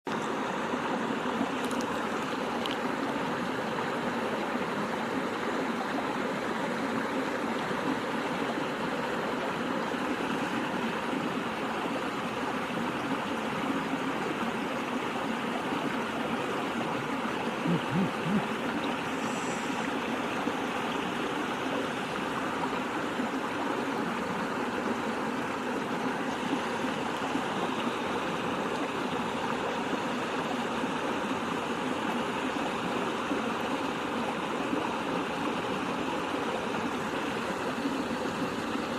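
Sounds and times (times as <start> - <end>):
stream water running: 0.1 - 38.9.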